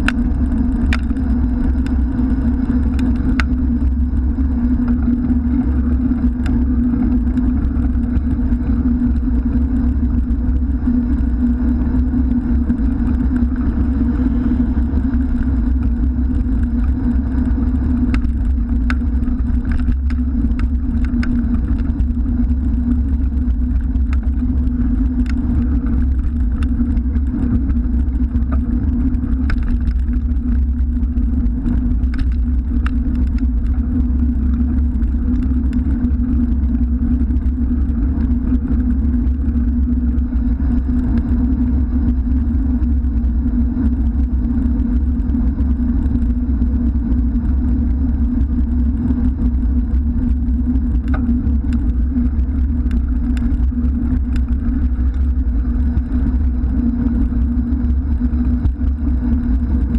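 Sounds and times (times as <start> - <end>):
road noise: 0.0 - 59.9
wind rumble: 0.0 - 59.9.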